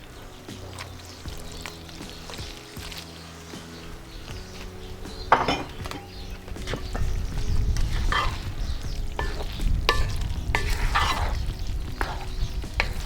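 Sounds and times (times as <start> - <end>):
low rumble: 0.0 - 13.0
spoon stirring in a pot: 0.0 - 13.0.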